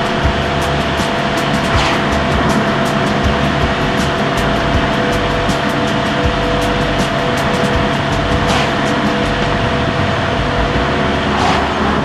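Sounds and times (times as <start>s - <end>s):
car engine hum: 0.0s - 12.0s
constant tones: 0.0s - 12.0s
road and tyre noise: 0.0s - 12.0s.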